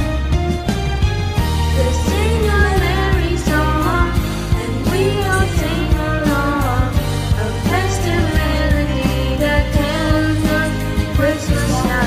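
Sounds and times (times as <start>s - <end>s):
backing track with bass and beat: 0.0s - 12.0s
children's choir singing: 1.8s - 12.0s.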